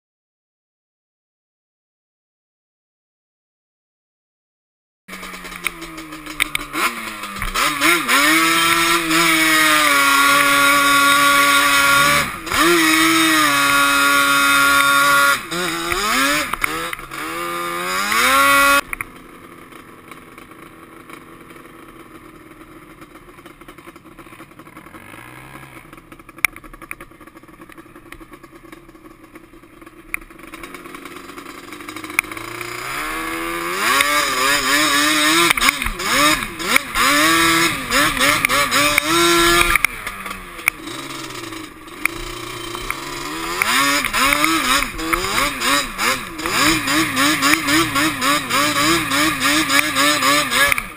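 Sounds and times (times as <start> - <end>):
quad engine revving: 5.1 - 50.9.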